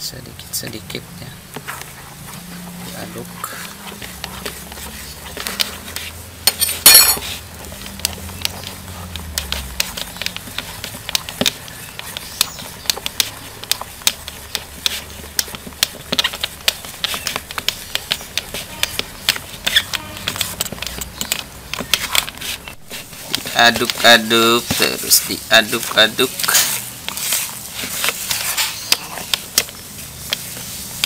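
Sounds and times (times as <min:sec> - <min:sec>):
spatula scraping plastic bowl: 0:00.7 - 0:31.0.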